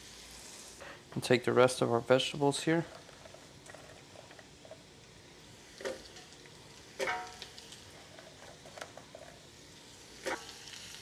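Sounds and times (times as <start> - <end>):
vegetables sizzling in a pan: 0.0 - 1.0, 2.4 - 11.0.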